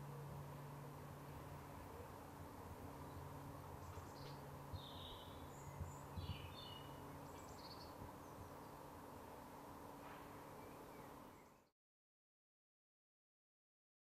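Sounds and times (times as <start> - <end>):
faint outdoor background noise: 0.0 - 11.8.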